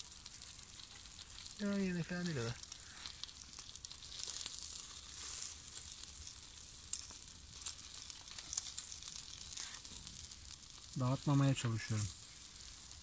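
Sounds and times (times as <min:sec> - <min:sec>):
fish sizzling over charcoal: 0:00.0 - 0:13.0.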